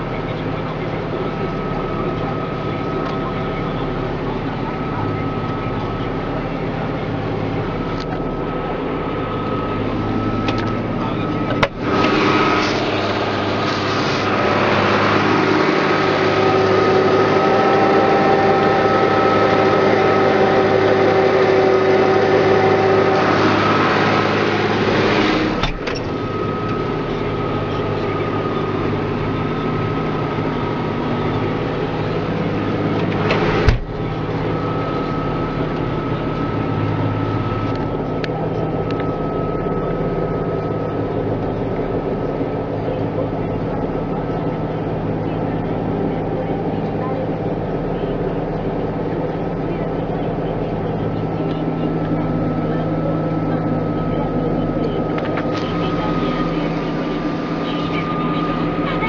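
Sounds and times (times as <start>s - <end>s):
steady whine: 0.0s - 59.0s
tractor diesel engine under load: 0.0s - 59.0s.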